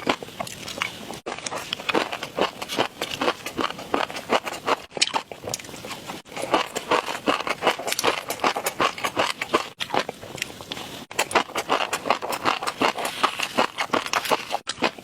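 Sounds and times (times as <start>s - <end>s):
wet chewing crunches: 0.0s - 15.0s.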